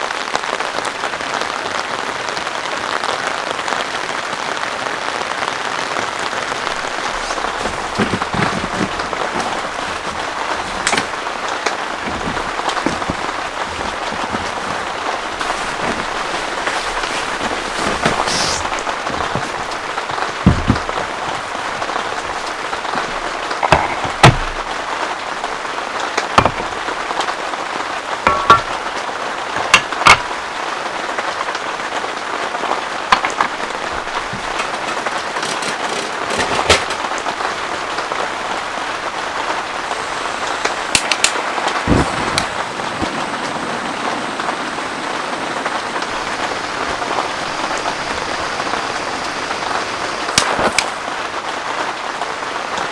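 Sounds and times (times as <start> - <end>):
heavy rain hiss: 2.0 - 52.9
raindrops tapping close by: 3.8 - 52.9.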